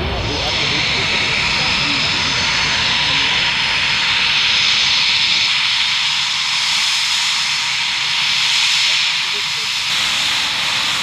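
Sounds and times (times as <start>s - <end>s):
jet engines hissing and whining: 0.0s - 11.0s.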